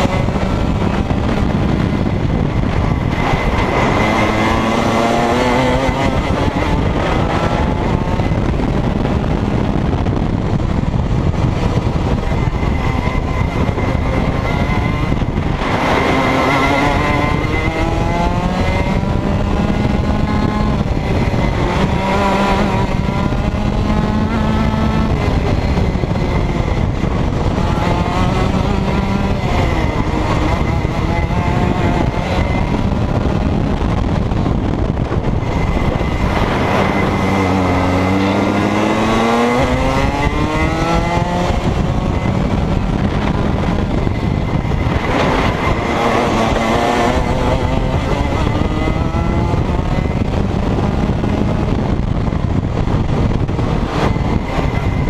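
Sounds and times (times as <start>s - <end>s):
kart engine at racing speed: 0.0s - 55.0s.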